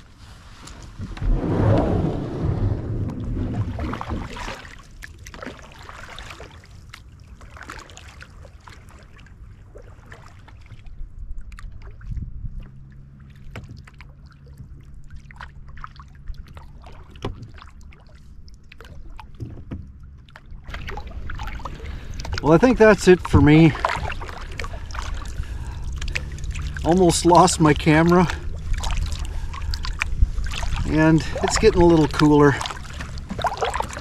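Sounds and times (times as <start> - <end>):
kayak paddle strokes in water: 0.0 - 34.0
water drips and small splashes: 3.0 - 34.0.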